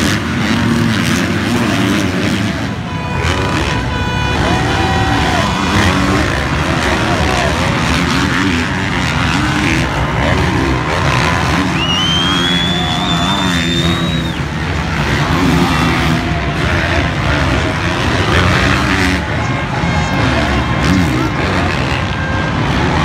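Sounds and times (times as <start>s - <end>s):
crowd murmur: 0.0s - 23.0s
motocross engines revving: 0.0s - 23.0s.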